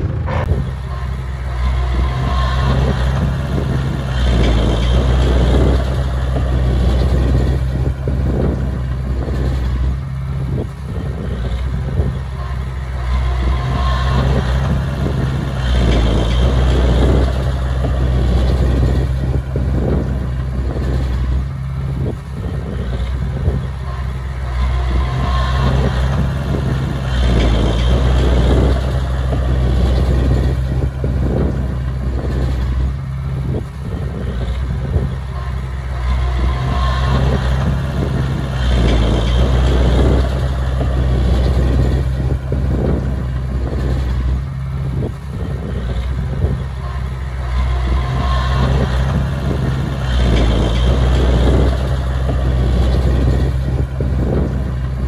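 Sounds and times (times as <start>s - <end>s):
bulldozer diesel engine: 0.0s - 55.0s
dump truck engine: 0.0s - 55.0s.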